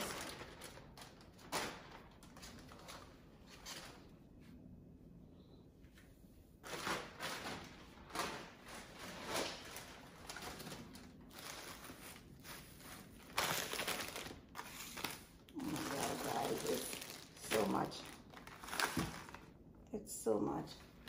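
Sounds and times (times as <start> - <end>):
groceries rustling and knocking: 0.0 - 4.3, 6.6 - 19.6.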